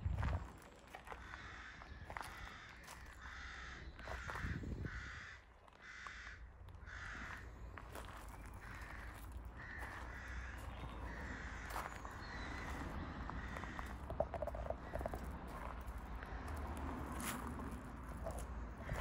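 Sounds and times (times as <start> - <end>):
crow cawing: 1.1 - 16.8, 18.2 - 19.0.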